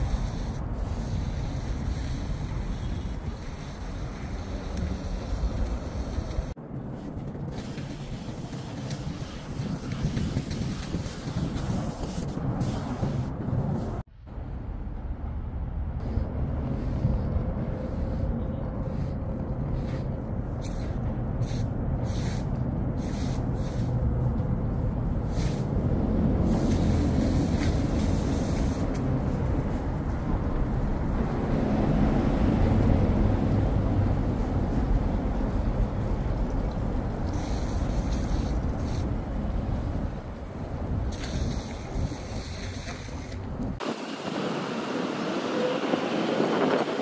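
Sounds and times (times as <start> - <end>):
low rumble of traffic: 0.0 - 47.0.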